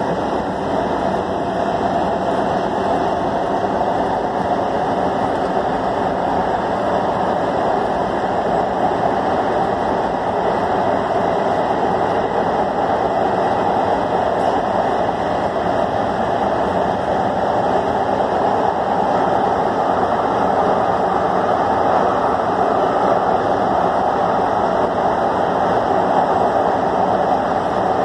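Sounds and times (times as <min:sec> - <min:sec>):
subway train in tunnel: 0:00.0 - 0:28.0.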